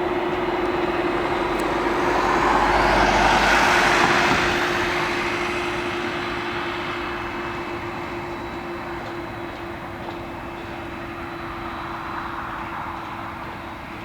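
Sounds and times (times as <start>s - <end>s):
jet engines passing by: 0.0s - 14.0s
steady engine whine: 0.0s - 14.0s.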